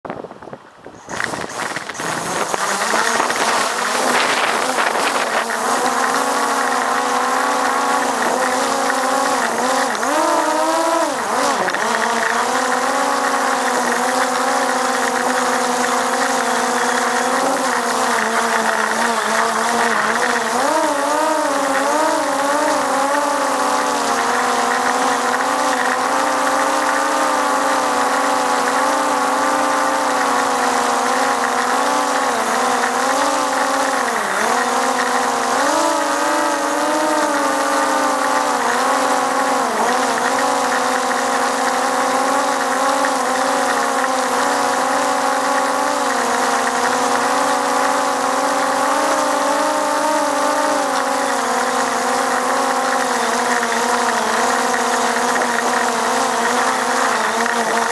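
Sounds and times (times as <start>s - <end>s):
drone propellers humming: 0.2s - 57.9s.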